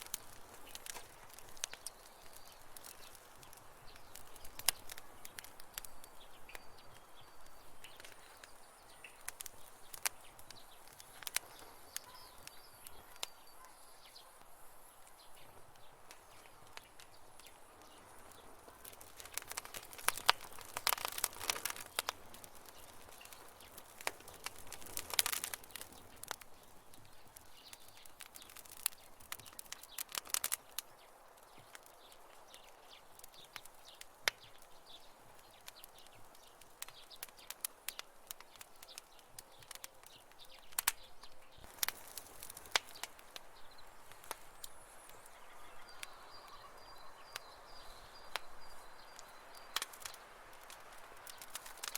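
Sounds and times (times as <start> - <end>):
campfire crackling and popping: 0.0 - 51.9
faint steady hiss: 0.0 - 51.9.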